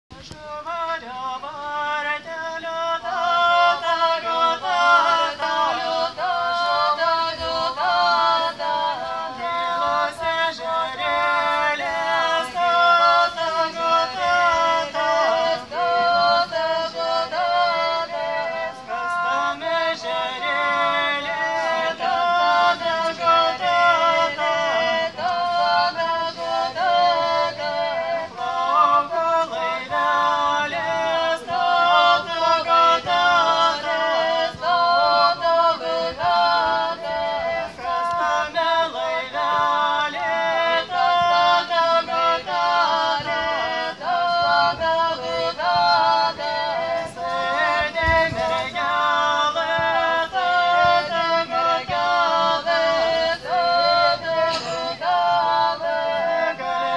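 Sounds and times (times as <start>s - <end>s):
mixed choir singing a cappella: 0.1s - 56.9s.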